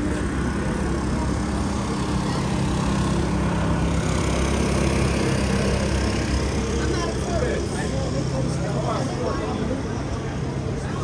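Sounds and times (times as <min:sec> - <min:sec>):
street traffic: 0:00.0 - 0:11.0
vehicle engine humming: 0:00.0 - 0:11.0.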